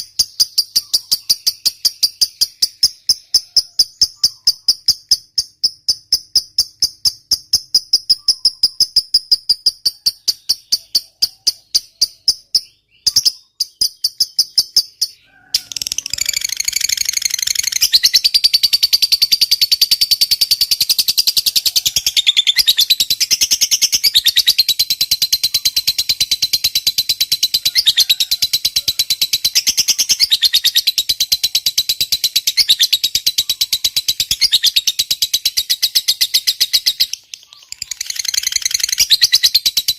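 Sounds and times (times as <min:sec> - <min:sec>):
lovebird chirping and trilling: 0:00.0 - 0:39.9.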